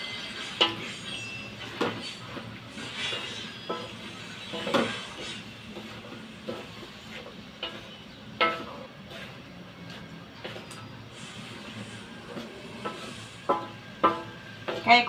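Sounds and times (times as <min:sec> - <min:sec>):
vegetables sizzling: 0:00.0 - 0:15.0
wooden spatula scraping metal wok: 0:00.0 - 0:15.0.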